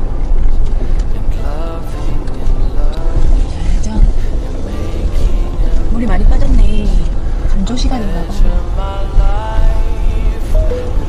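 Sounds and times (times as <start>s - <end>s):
truck road and wind noise: 0.0s - 11.0s.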